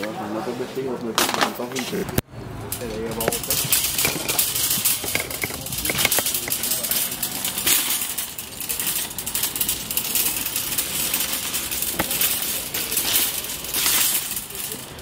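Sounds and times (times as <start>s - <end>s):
shopping cart rattling on pavement: 2.6s - 15.0s
sharp clack: 2.8s - 15.0s.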